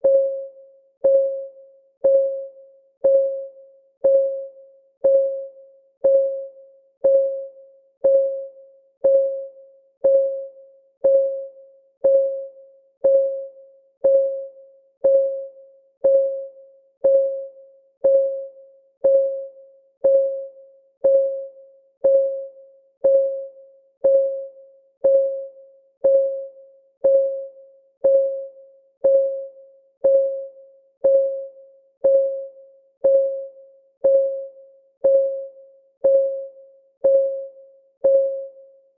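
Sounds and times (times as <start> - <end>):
timer ticking with ring: 0.0 - 38.8.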